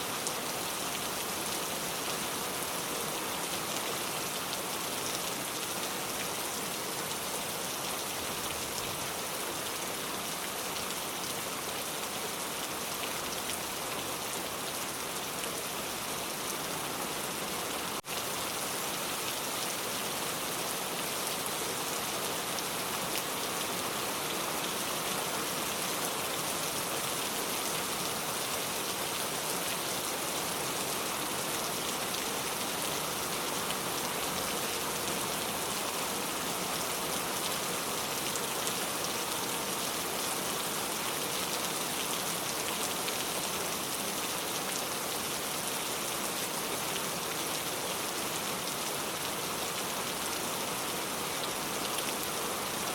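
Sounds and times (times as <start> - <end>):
steady rain hissing: 0.0 - 52.9.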